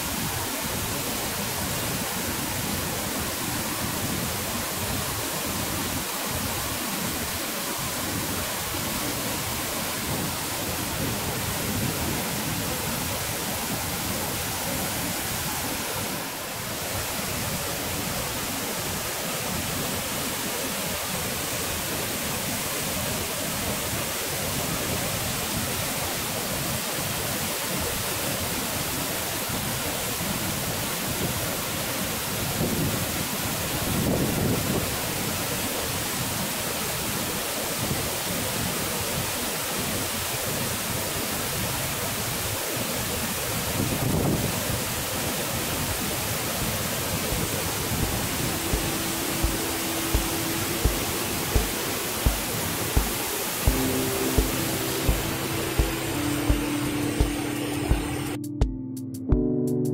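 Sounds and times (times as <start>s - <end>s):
waterfall water crashing into pool: 0.0s - 57.4s.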